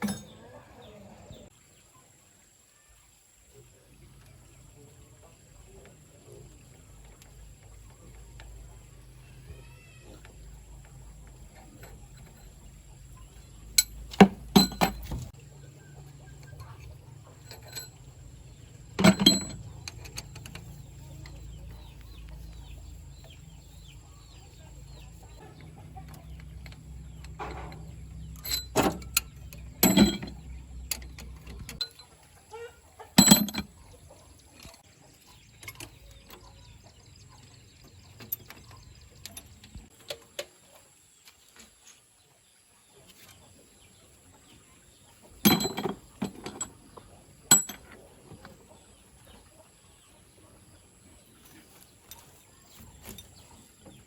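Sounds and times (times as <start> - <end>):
chickens clucking: 0.0 - 1.9, 3.6 - 54.0.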